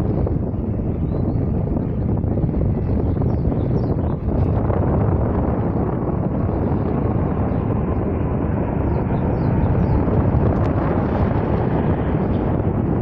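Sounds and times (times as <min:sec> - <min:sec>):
aircraft engine flying over: 0:00.0 - 0:13.0
wind buffeting microphone: 0:00.0 - 0:13.0.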